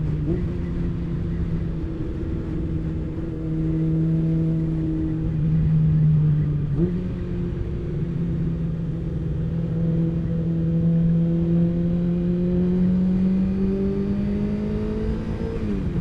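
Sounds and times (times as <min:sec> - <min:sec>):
motorcycle engine revving: 0:00.0 - 0:16.0
wind and road noise: 0:00.0 - 0:16.0.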